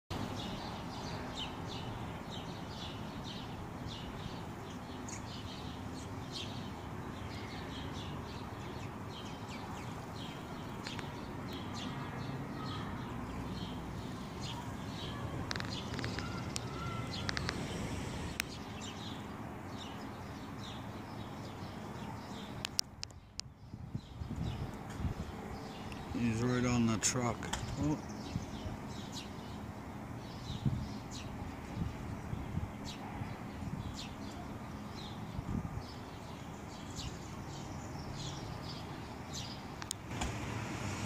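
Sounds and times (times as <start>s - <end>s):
small birds chirping: 0.1s - 40.1s.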